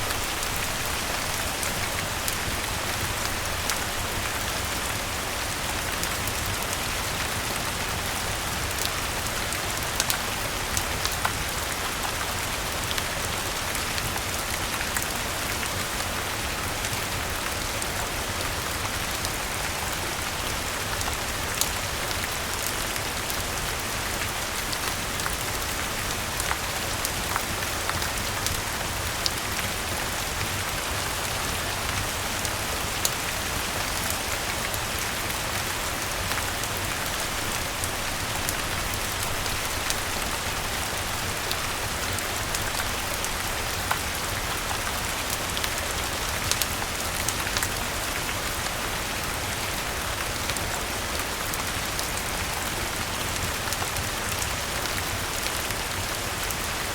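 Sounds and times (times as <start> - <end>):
rain falling on leaves: 0.0 - 56.9.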